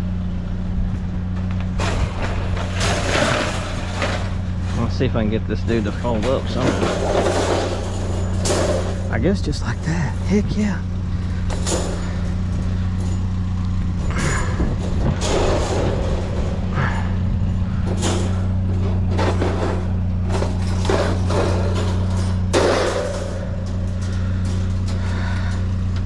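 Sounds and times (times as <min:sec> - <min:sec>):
vehicle engine idling: 0:00.0 - 0:26.0
junk clattering: 0:01.2 - 0:26.0.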